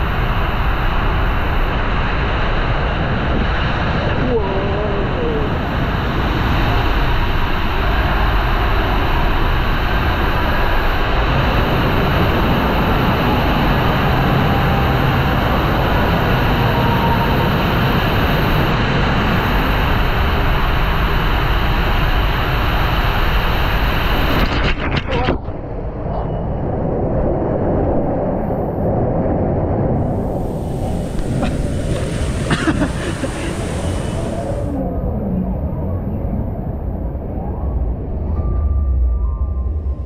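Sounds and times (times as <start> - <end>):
rushing water and air in a slide: 0.0 - 40.0.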